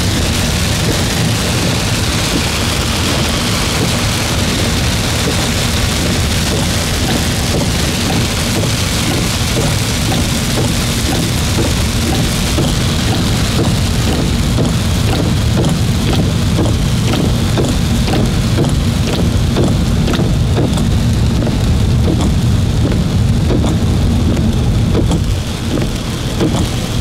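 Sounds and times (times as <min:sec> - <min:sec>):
close raindrop hits: 0:00.0 - 0:27.0
heavy rain falling: 0:00.0 - 0:27.0
low rumble: 0:00.0 - 0:27.0.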